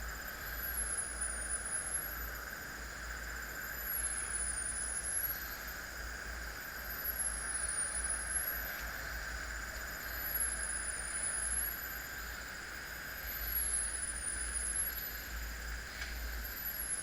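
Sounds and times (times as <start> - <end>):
faint high gliding whine: 0.0 - 17.0.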